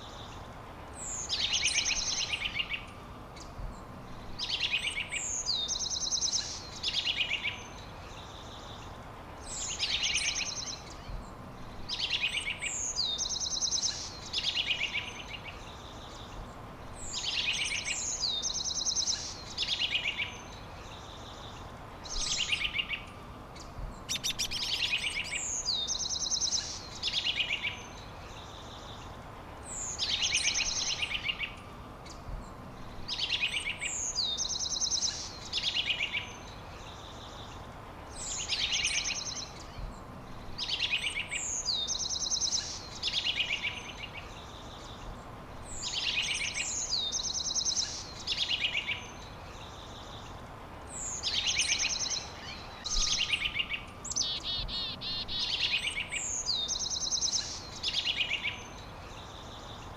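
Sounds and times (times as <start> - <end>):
songbird singing: 0.0 - 59.9
steady background hiss: 0.0 - 59.9.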